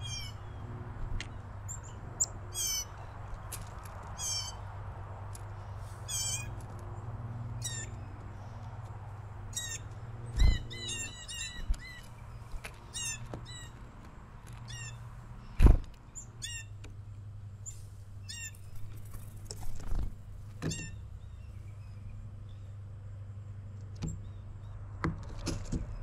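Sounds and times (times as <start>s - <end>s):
songbirds call notes: 0.0s - 3.5s, 4.1s - 4.8s, 5.4s - 17.0s, 17.6s - 24.9s.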